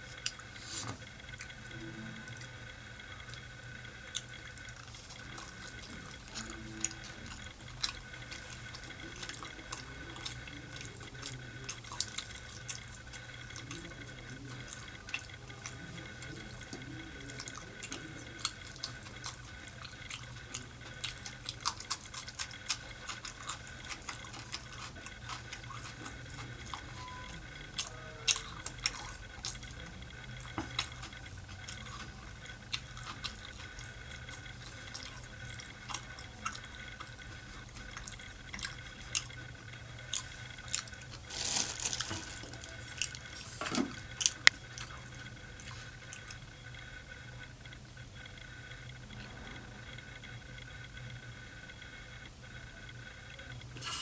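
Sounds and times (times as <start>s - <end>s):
wet chewing and lip-smacking: 0.0s - 1.6s, 3.2s - 46.4s.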